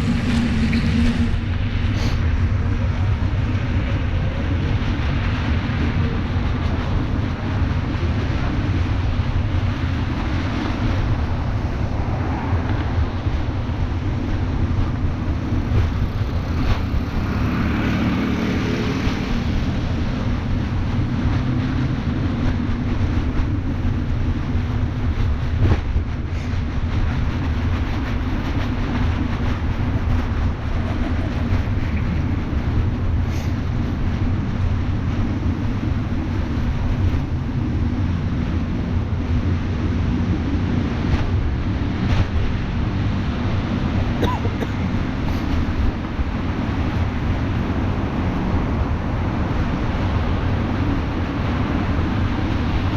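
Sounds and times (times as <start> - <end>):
wind on microphone: 0.0 - 52.9.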